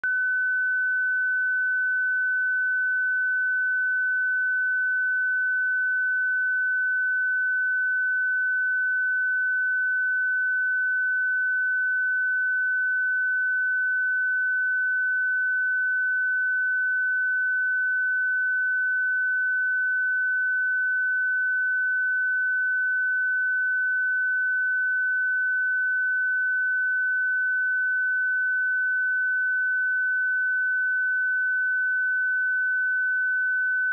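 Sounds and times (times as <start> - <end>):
sine wave test tone: 0.0 - 33.9.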